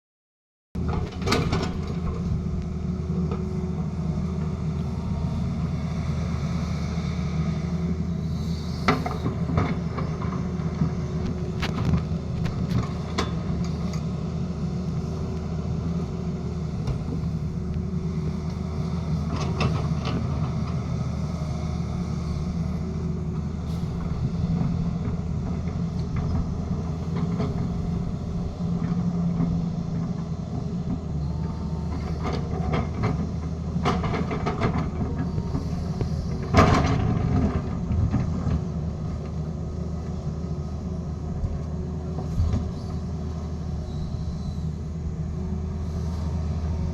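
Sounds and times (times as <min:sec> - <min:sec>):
excavator diesel engine running: 0:00.8 - 0:46.9.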